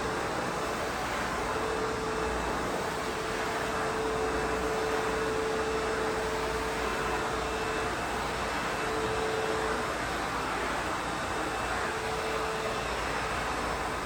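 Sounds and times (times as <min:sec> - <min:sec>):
backpack vacuum running: 0:00.0 - 0:14.0.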